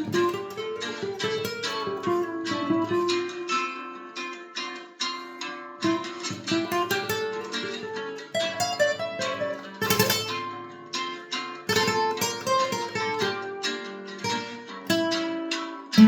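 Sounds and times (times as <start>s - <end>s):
flamenco guitar plucking and strumming: 0.0s - 16.0s.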